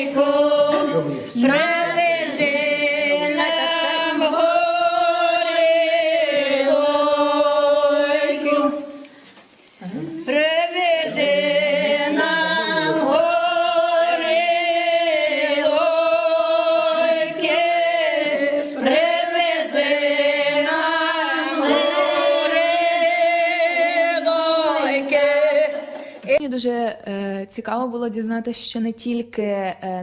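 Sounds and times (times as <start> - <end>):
group singing in harmony: 0.0 - 9.1, 9.9 - 26.4.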